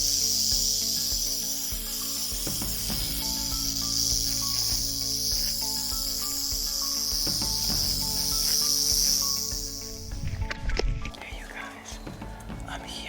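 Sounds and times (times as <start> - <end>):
insect buzzing: 0.0 - 12.8
soft background music: 0.0 - 13.0.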